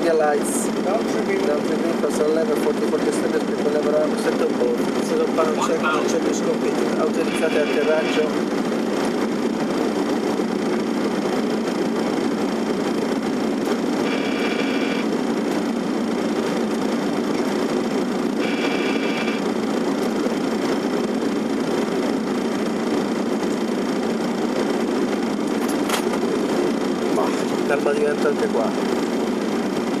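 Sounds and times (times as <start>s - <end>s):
airflow rush and engine noise: 0.0s - 30.0s.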